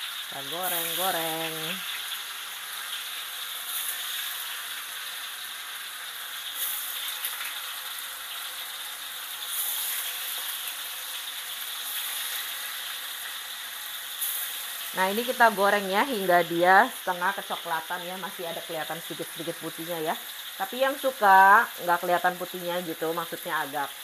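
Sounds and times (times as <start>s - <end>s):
tofu sizzling in hot oil: 0.0s - 24.0s.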